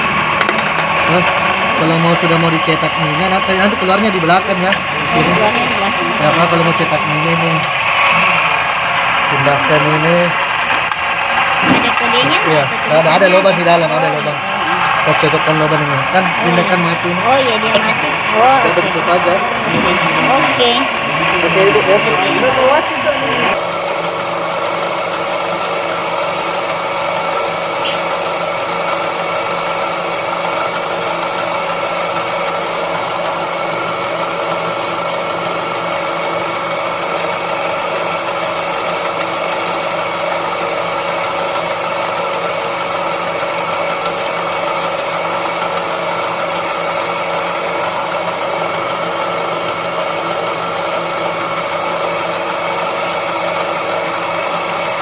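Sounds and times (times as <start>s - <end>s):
machine motor hum: 0.0s - 55.0s.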